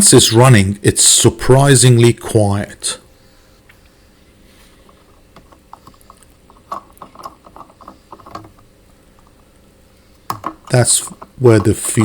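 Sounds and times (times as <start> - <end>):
portable heater humming: 0.0 - 12.0.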